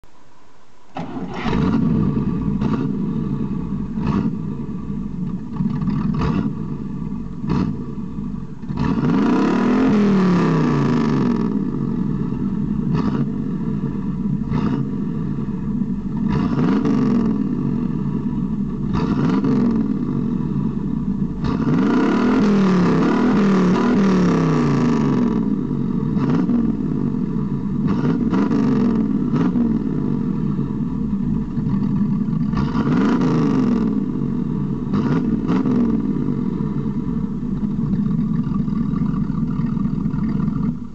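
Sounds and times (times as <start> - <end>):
car engine revving: 0.9 - 40.9.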